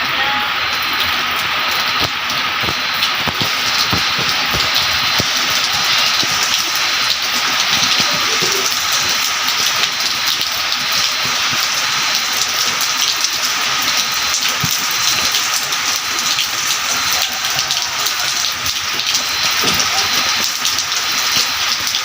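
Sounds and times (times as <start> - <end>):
light rain hissing and pattering: 0.0 - 22.0.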